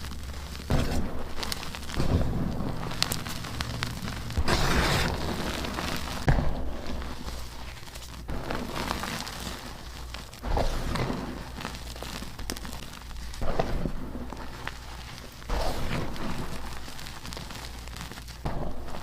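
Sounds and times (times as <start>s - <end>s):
chalk crumbling crackle: 0.0s - 19.0s
chalk crunching: 0.0s - 19.0s.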